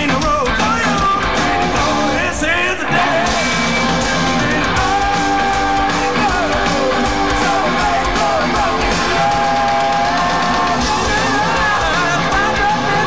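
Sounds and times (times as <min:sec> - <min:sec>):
distorted electric guitars: 0:00.0 - 0:13.0
live hard rock band: 0:00.0 - 0:13.0.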